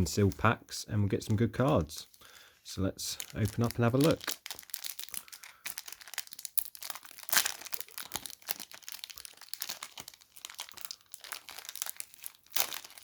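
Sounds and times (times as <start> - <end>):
foil wrapper crinkling and tearing: 1.9 - 13.0.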